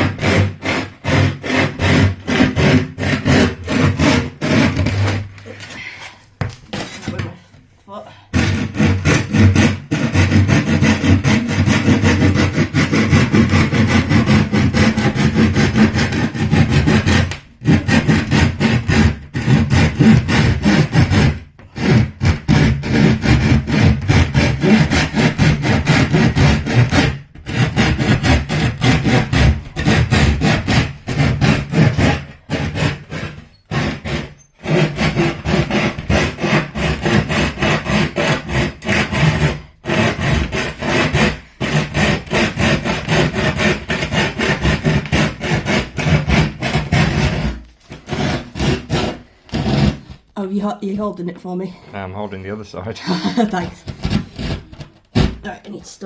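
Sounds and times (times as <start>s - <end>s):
saw cutting wood: 0.0s - 5.3s, 8.3s - 50.2s, 53.1s - 55.6s.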